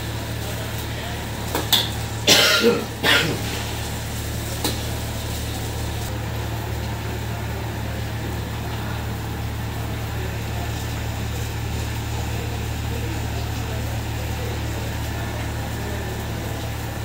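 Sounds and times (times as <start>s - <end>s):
gas burner rumbling: 0.0s - 17.0s.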